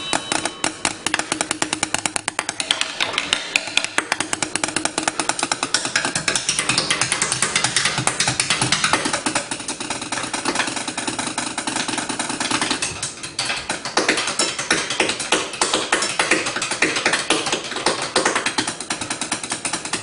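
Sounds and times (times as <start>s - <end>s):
chopsticks drumming on pots: 0.0s - 20.0s.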